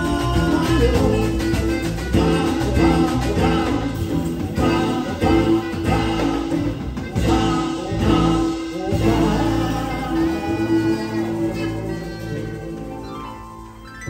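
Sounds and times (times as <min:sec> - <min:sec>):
person singing: 0:00.0 - 0:13.7
live samba band playing: 0:00.0 - 0:14.0
saxophone: 0:00.0 - 0:14.0.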